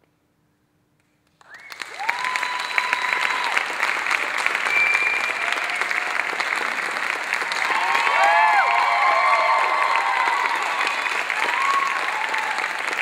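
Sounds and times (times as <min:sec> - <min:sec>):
audience applauding: 0:01.3 - 0:13.0
cheering whoops: 0:01.4 - 0:13.0.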